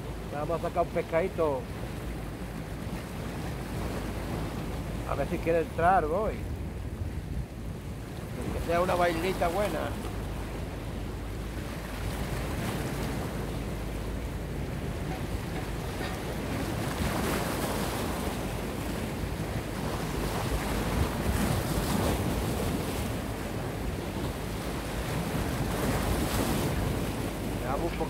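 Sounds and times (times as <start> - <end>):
waves splashing against rocks: 0.0 - 28.0
wind buffeting microphone: 1.6 - 28.0.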